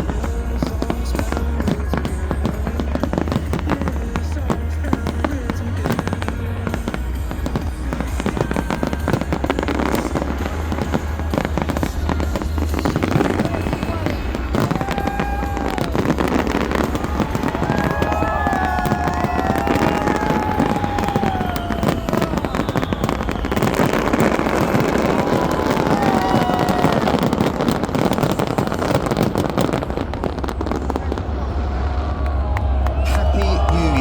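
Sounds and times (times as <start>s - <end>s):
fireworks bangs and crackling: 0.0s - 34.0s
fireworks whistling: 0.0s - 34.0s.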